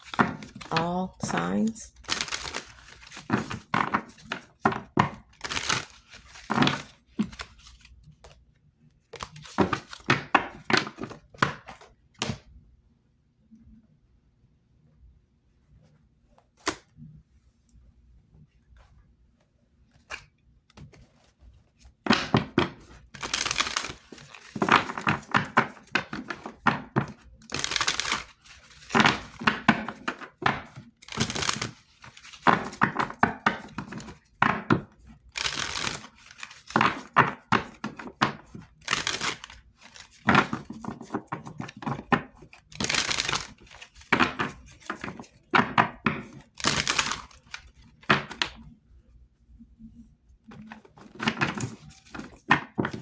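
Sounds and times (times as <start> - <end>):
cards being shuffled: 0.0 - 8.4, 9.1 - 12.4, 19.9 - 48.6, 50.5 - 53.0.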